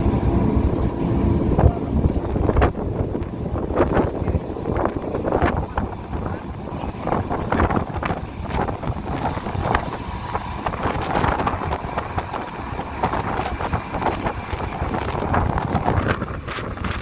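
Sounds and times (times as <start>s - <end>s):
sea water rushing along hull: 0.0s - 17.0s
wind buffeting microphone: 0.0s - 17.0s.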